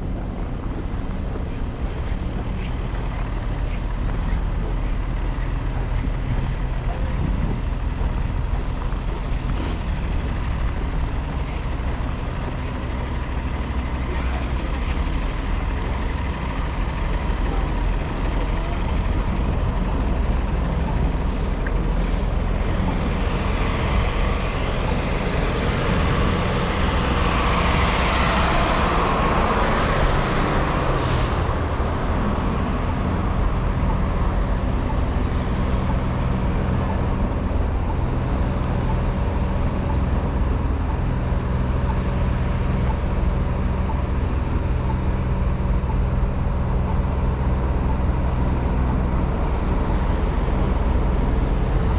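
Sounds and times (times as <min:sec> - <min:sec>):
city street traffic: 0:00.0 - 0:51.9
heavy vehicle engine running: 0:00.0 - 0:51.9.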